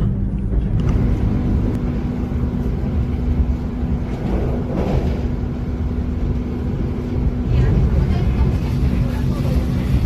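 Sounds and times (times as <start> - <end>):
constant hum: 0.0 - 10.0
vehicle engine rumble: 0.0 - 10.0.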